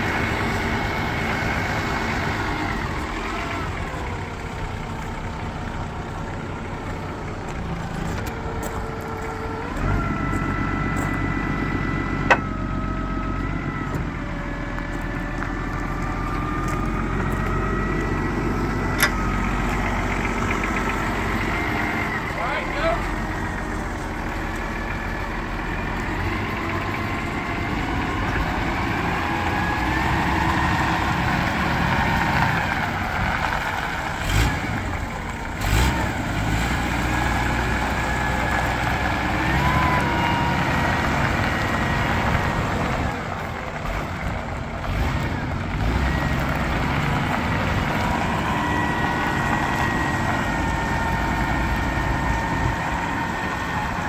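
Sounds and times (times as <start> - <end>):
diesel forklift engine running: 0.0 - 54.0.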